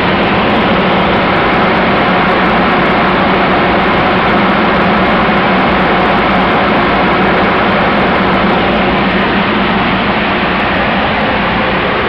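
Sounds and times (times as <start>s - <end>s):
aircraft radial engines droning: 0.0s - 12.0s.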